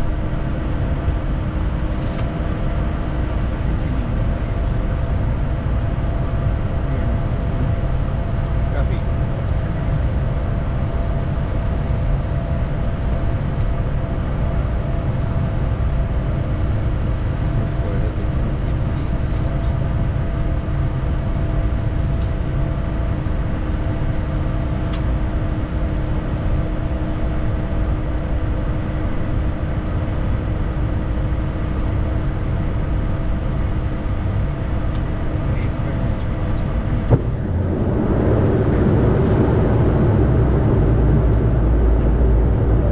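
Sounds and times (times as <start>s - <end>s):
jet cockpit airflow and engines: 0.0s - 42.9s.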